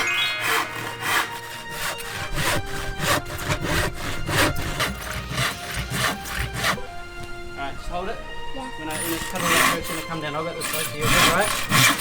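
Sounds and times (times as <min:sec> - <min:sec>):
handsaw cutting through wood: 0:00.0 - 0:06.9, 0:08.8 - 0:12.0.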